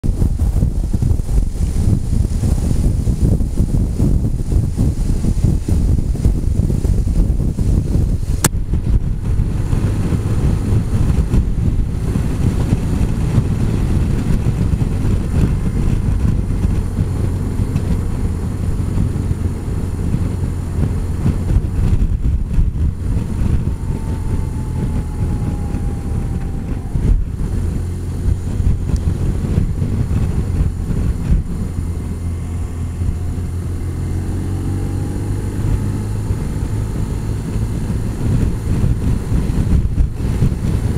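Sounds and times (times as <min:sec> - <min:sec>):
motorcycle engine hum: 0:00.0 - 0:40.9
wind buffeting on microphone: 0:00.0 - 0:40.9.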